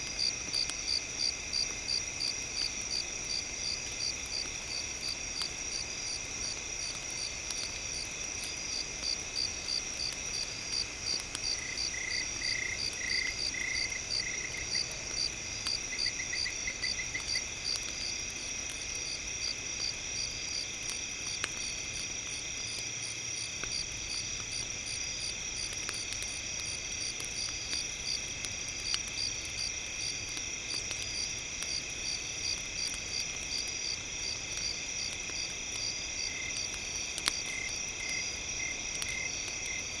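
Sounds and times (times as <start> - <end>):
campfire crackling: 0.0 - 40.0
crickets chirping: 0.0 - 40.0.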